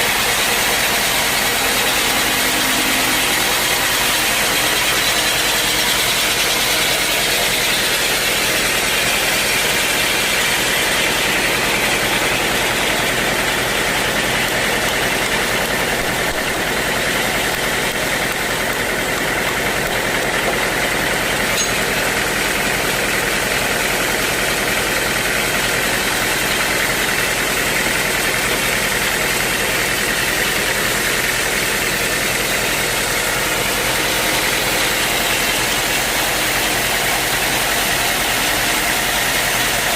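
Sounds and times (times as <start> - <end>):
sawmill sawing a log: 0.0 - 39.9.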